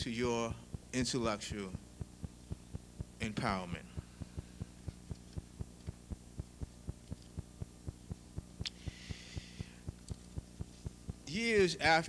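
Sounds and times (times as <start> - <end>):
soft regular pulse: 0.0 - 11.5
faint electrical hum: 0.0 - 12.0.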